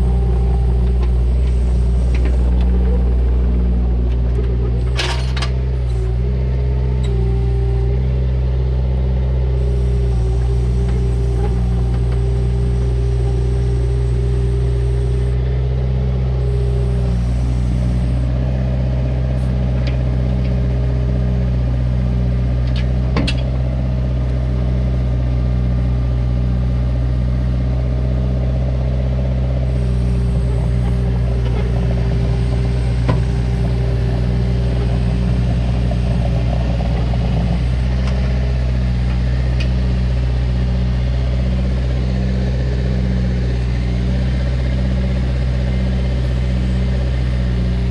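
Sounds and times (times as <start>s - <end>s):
diesel engine running: 0.0s - 47.9s
hydraulic whine: 0.0s - 47.9s.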